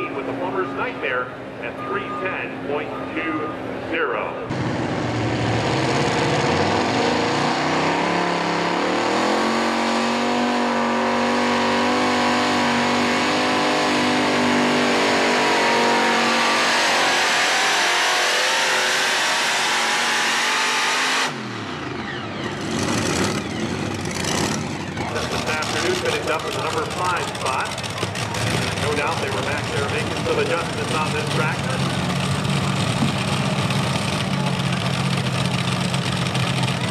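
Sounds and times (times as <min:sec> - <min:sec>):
tractor engines at full throttle: 0:00.0 - 0:36.9.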